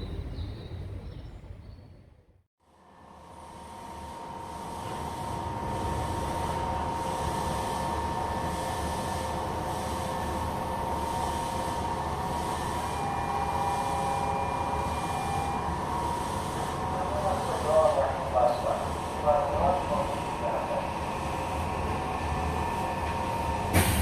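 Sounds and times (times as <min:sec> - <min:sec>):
traction motor whine: 0:03.0 - 0:24.0
train wheels rumbling on track: 0:03.3 - 0:24.0.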